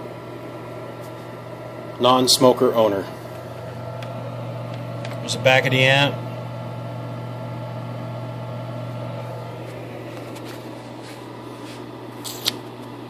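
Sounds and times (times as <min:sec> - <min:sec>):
cooling blower whirring: 0:00.0 - 0:13.0
low mains hum: 0:00.0 - 0:13.0.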